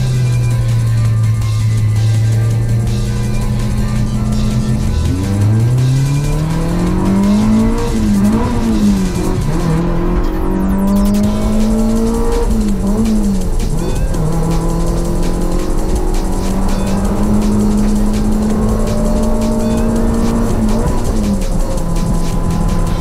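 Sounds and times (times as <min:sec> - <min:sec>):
car engine revving hard: 0:00.0 - 0:23.0.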